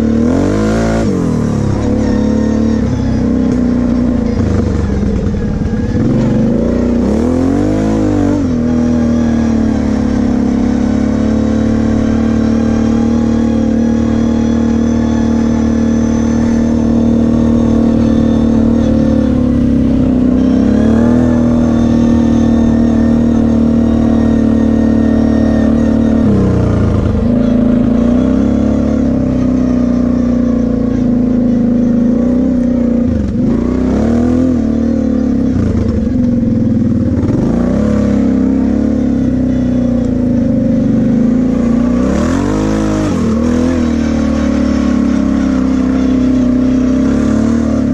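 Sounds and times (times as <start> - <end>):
quad engine running under load: 0.0 - 47.9.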